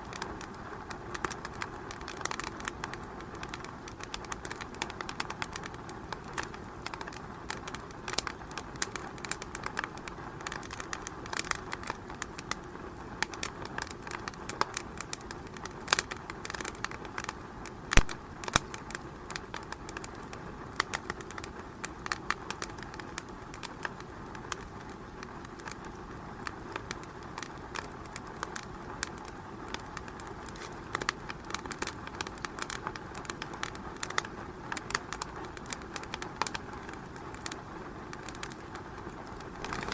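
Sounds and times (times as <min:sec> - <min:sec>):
fire hissing: 0:00.0 - 0:39.9
wood fire crackling and popping: 0:00.0 - 0:39.9.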